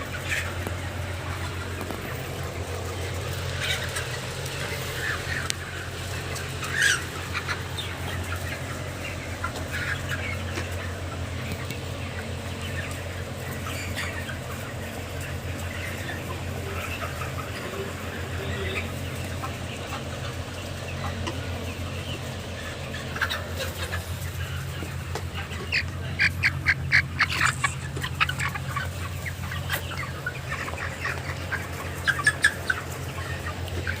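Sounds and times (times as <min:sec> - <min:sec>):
chickens clucking and calling: 0:00.0 - 0:34.0.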